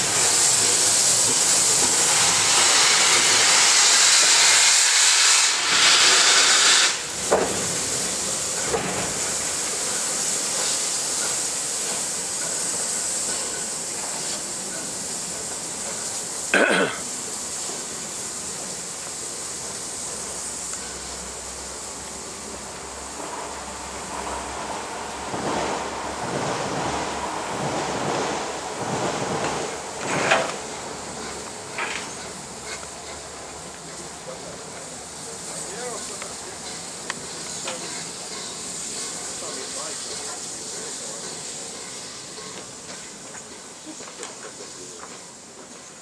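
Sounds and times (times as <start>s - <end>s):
steam locomotive hissing: 0.0s - 46.0s
steam puffs: 0.0s - 46.0s.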